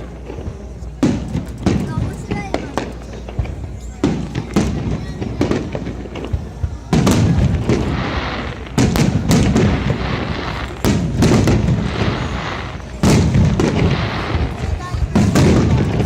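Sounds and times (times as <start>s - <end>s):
fireworks booming: 0.0s - 16.0s
fireworks crackle: 0.0s - 16.0s.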